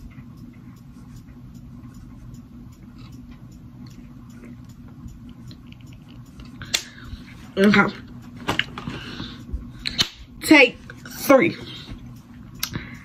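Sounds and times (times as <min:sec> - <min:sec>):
faint regular ticking: 0:00.0 - 0:13.0
steady low hum: 0:00.0 - 0:13.0.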